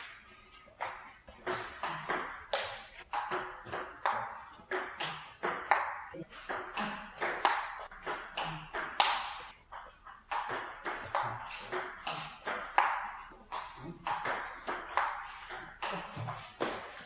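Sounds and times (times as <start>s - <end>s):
table tennis ball rally: 0.0s - 17.0s.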